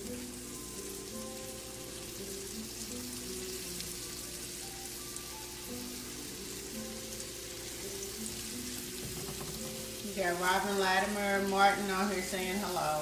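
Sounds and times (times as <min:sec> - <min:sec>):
fish frying in hot oil: 0:00.0 - 0:13.0
soft background music: 0:00.0 - 0:13.0.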